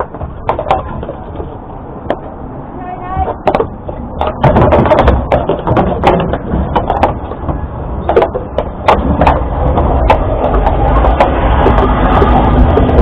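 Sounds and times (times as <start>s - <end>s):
horse hooves clopping: 0.0s - 2.5s, 3.1s - 13.0s
wooden tram rattling: 0.0s - 13.0s.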